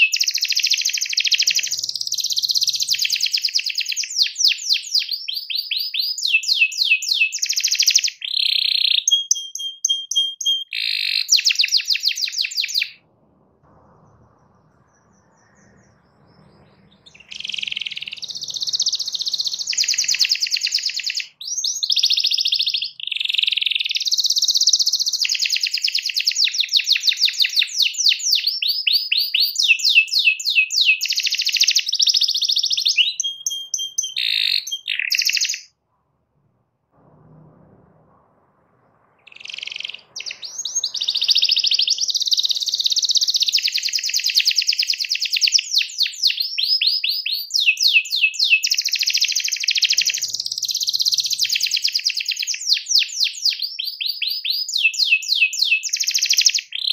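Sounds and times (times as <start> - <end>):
canary singing trills: 0.0 - 35.7, 39.0 - 56.9.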